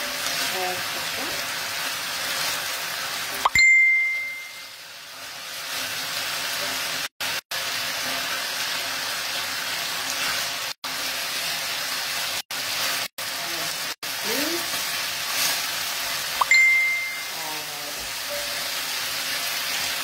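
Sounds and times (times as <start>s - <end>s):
chicken sizzling in a pan: 0.0s - 3.4s, 4.1s - 20.0s.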